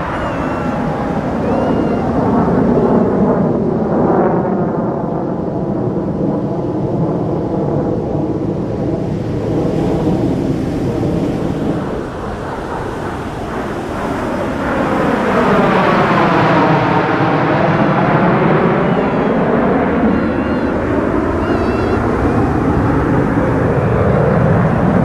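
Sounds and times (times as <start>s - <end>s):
fighter jet flying past: 0.0s - 25.0s.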